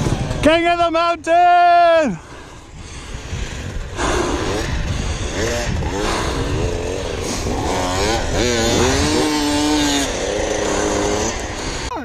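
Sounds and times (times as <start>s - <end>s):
dirt bike engine revving: 0.0s - 0.9s, 2.3s - 12.0s.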